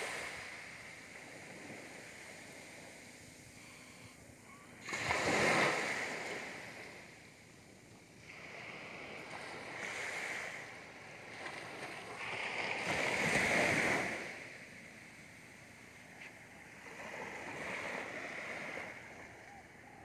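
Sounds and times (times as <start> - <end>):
sea waves breaking on sandy beach: 0.0 - 19.9.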